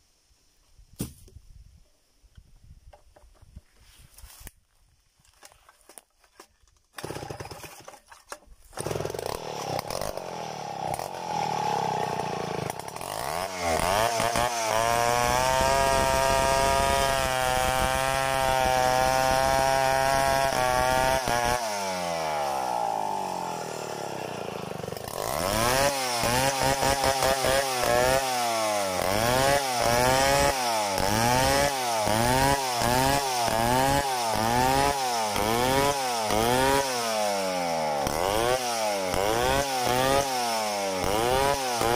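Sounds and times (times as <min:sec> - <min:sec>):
chainsaw cutting log: 0:05.4 - 0:41.9.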